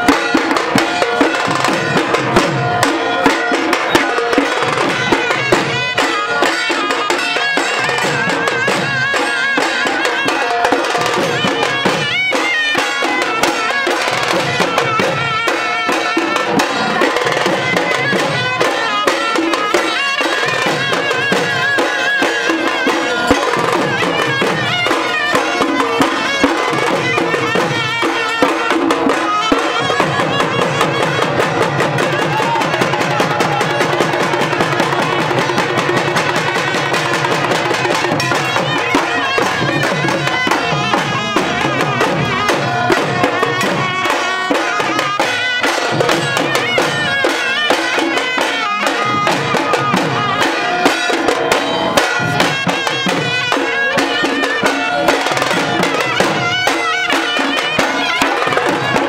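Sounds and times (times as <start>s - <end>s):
drums played with sticks: 0.0s - 59.0s.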